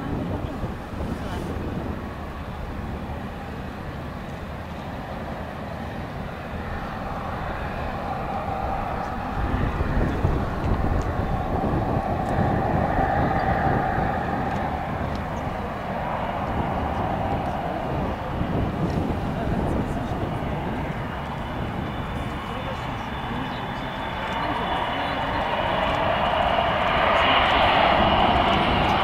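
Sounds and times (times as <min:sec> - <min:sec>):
jet engines in flight: 0:00.0 - 0:29.0.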